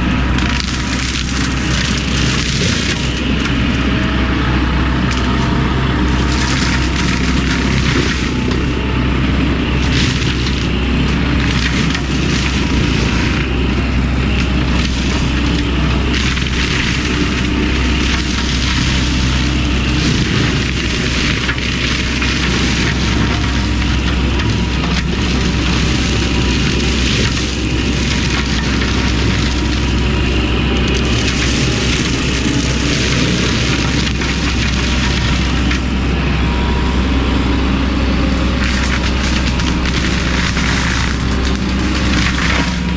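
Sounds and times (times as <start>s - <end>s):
excavator engine hum: 0.0s - 42.9s
mulcher grinding brush and wood: 0.0s - 42.9s.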